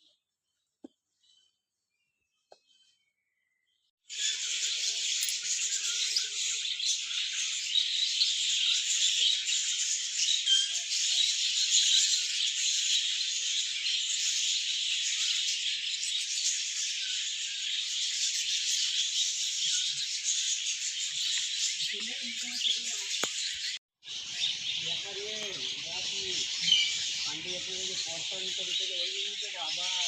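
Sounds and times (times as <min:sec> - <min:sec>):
flock of small birds chattering: 0:04.1 - 0:30.0.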